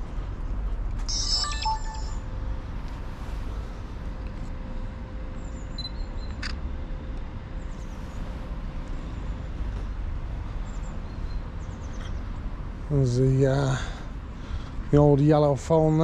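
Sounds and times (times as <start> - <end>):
low outdoor rumble: 0.0 - 1.1, 2.0 - 16.0.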